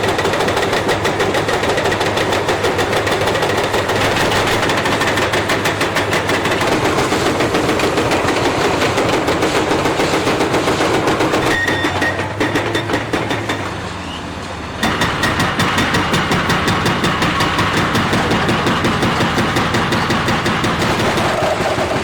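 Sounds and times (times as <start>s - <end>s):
diesel machine clattering: 0.0s - 22.0s.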